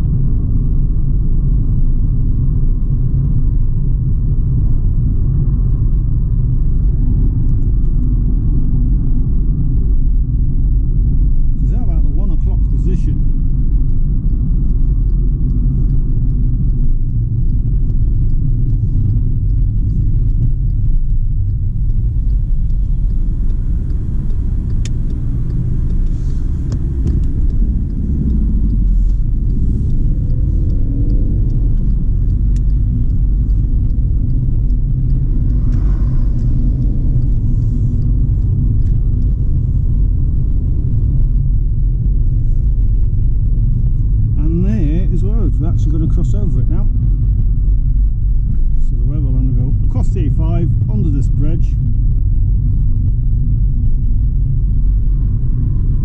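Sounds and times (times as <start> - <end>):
car interior rumble: 0.0 - 56.0.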